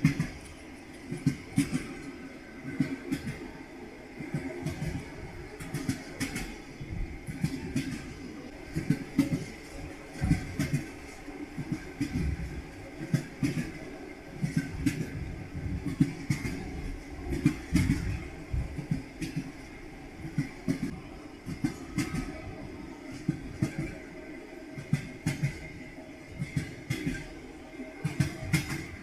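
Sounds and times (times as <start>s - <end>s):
train wheels clattering over rail joints: 0.0s - 3.5s, 4.2s - 24.2s, 24.8s - 27.4s, 28.0s - 29.0s.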